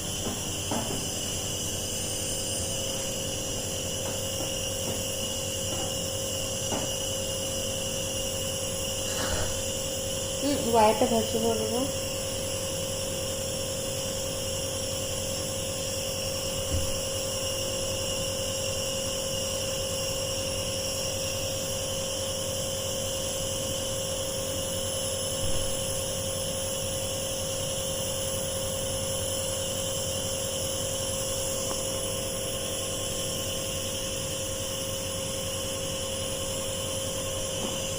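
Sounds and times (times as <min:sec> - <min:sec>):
nebuliser compressor humming: 0:00.0 - 0:37.9.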